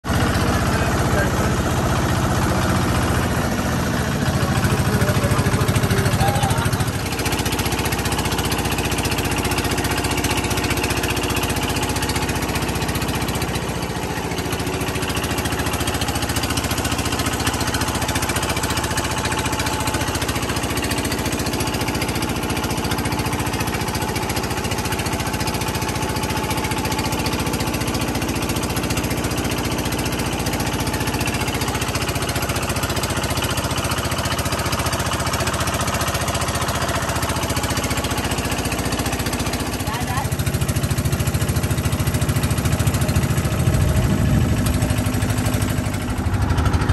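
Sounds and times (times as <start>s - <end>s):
motorboat engine chugging: 0.0s - 46.9s.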